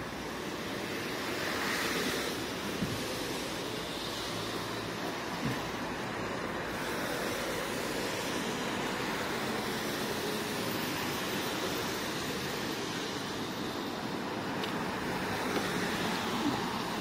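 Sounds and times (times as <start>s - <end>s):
traffic hiss on snowy road: 0.0s - 17.0s.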